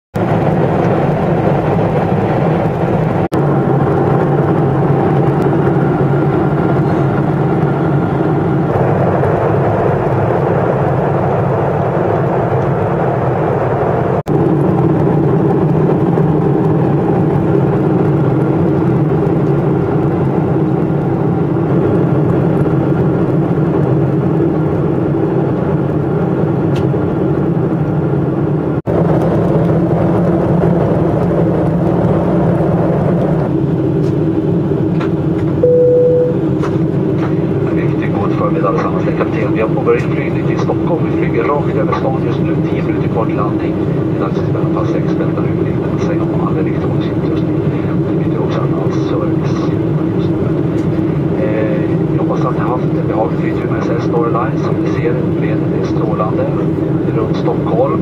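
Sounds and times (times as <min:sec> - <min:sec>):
jet engine and airflow drone: 0:00.2 - 0:58.0.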